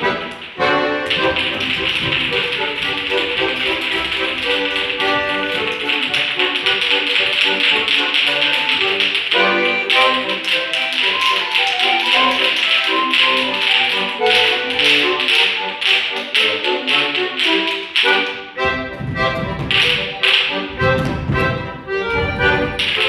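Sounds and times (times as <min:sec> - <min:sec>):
lively folk dance music: 0:00.0 - 0:23.0
sharp tapping and knocking beats: 0:00.0 - 0:23.0.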